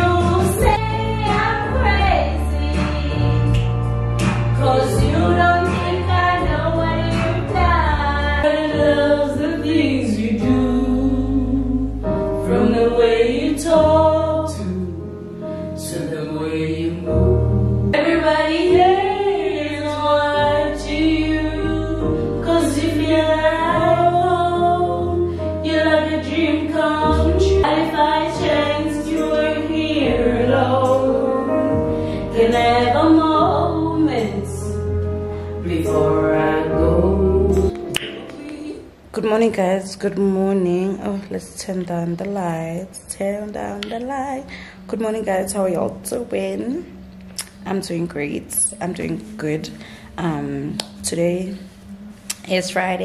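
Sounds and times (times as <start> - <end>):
woman singing into microphone: 0.0 - 3.8, 4.6 - 16.8, 18.0 - 34.9, 35.6 - 53.0
voices singing along: 0.0 - 15.2, 15.8 - 34.8, 35.5 - 39.4, 43.2 - 53.0
backing track music: 0.0 - 39.2, 43.7 - 53.0.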